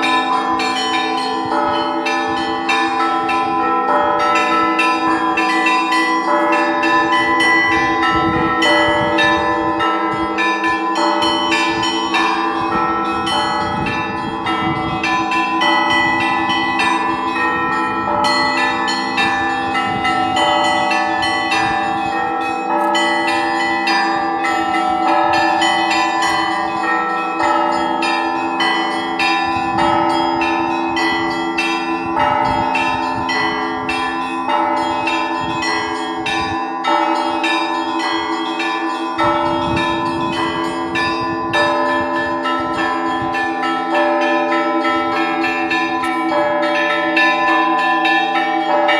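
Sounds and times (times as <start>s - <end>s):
church bells ringing: 0.0s - 48.9s
hum of lower bells: 0.0s - 48.9s.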